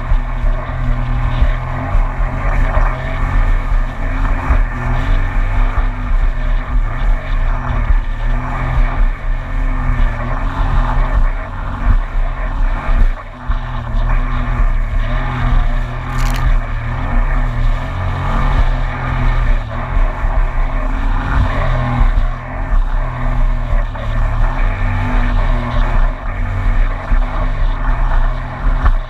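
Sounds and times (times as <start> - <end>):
personal watercraft engine running: 0.0 - 29.0.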